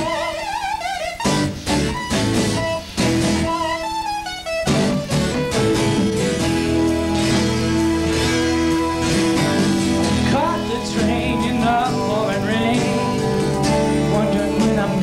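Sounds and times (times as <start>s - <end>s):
acoustic guitar strumming: 0.0s - 15.0s
pitch-bending melody line: 0.0s - 15.0s.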